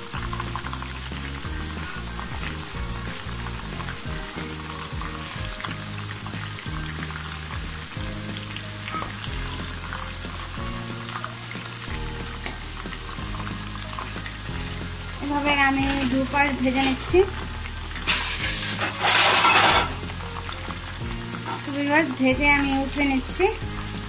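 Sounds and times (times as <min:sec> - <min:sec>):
food deep-frying in oil: 0:00.0 - 0:24.0
skimmer turning food in wok: 0:00.0 - 0:24.0.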